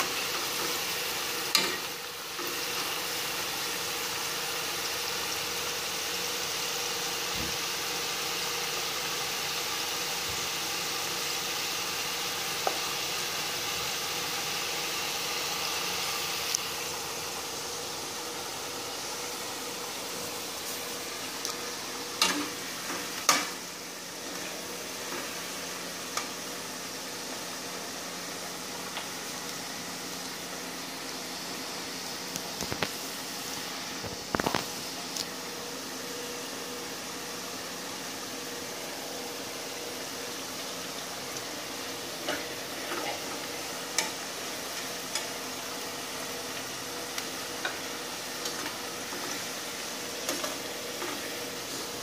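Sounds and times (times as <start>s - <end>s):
fries sizzling in hot oil: 0.0s - 52.0s.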